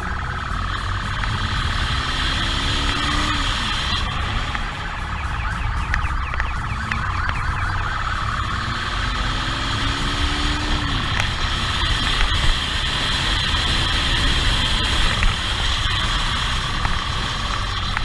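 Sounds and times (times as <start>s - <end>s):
motorcycle engine and wind rumble: 0.0s - 18.0s
police motorcycle siren yelping: 0.0s - 18.0s.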